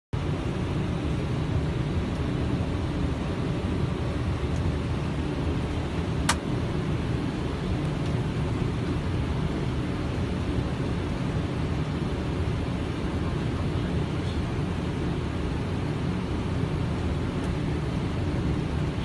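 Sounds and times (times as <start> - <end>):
airflow and engine rush: 0.2 - 19.0.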